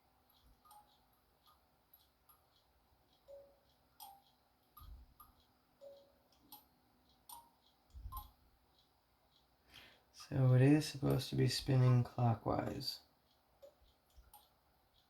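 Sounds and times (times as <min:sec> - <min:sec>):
toy motor ticking and clicking: 0:00.0 - 0:09.6, 0:12.5 - 0:15.0.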